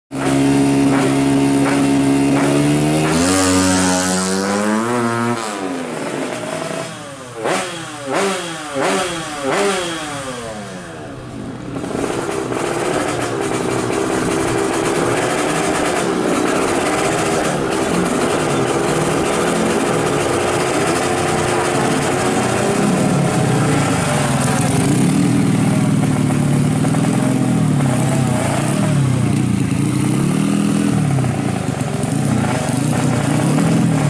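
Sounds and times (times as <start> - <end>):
motorcycle engine revving and accelerating: 0.1 - 34.0.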